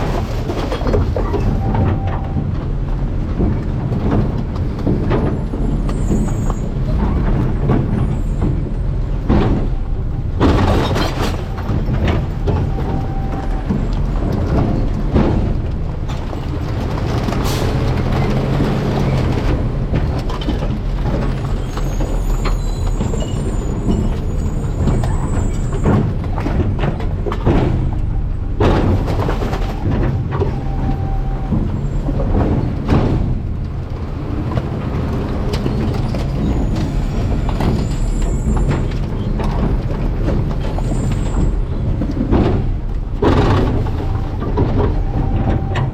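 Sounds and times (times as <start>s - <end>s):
diesel engine running under load: 0.0s - 45.9s
trash banging and crunching: 0.0s - 45.9s.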